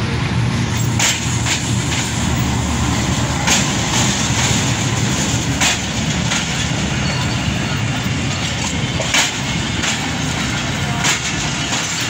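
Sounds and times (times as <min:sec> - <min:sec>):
train rumbling past: 0:00.0 - 0:12.0
wheels clacking on track: 0:00.0 - 0:12.0.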